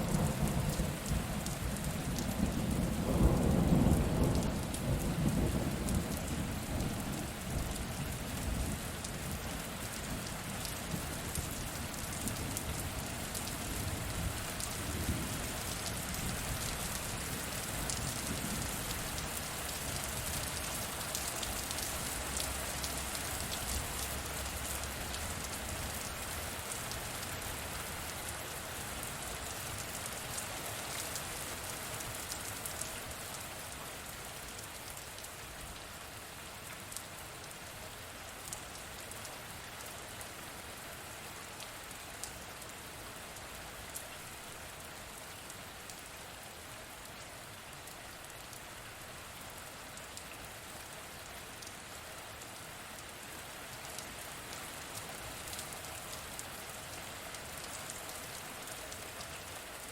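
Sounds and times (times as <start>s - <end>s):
steady rain pouring: 0.0s - 59.9s.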